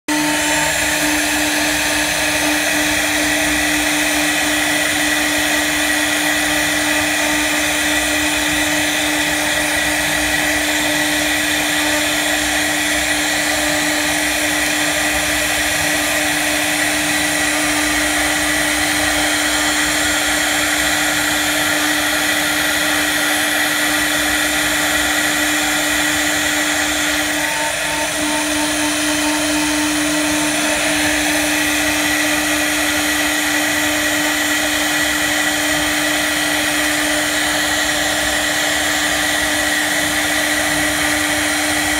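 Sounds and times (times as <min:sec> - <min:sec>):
router spindle whining: 0:00.0 - 0:41.9
cutter hissing in wood: 0:00.1 - 0:41.9.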